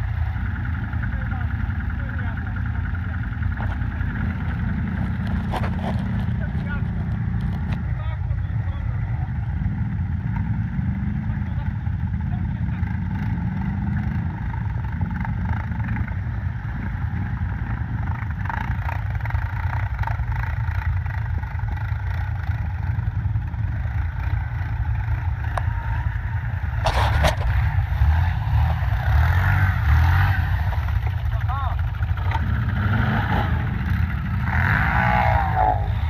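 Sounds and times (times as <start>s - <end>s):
quad bike engines revving: 0.0s - 36.0s.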